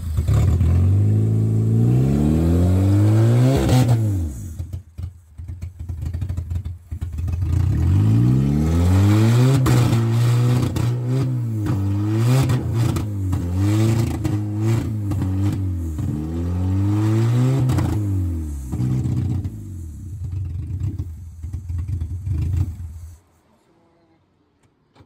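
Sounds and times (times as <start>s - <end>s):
car engine revving: 0.0s - 5.1s, 5.8s - 23.2s.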